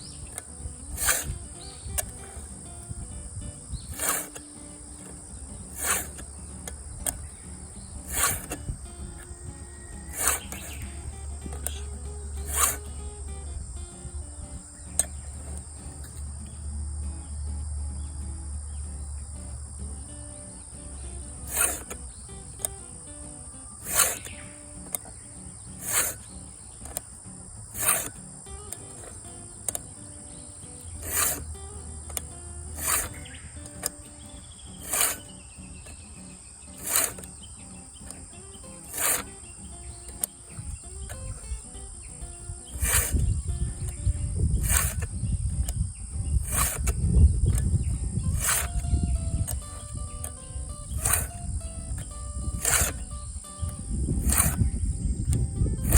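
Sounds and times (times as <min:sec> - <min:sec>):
hand file stroking chain: 0:00.0 - 0:16.4, 0:19.2 - 0:55.9
sharp click: 0:00.0 - 0:16.6, 0:19.2 - 0:55.9
insect drone: 0:00.0 - 0:55.9.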